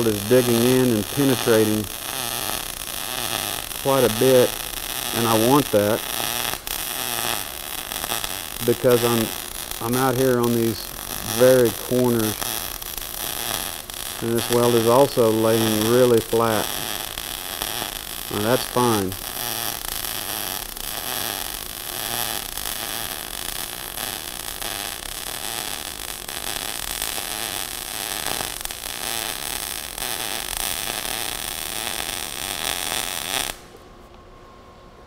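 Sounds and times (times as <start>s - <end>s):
welding arc crackling: 0.0s - 33.8s.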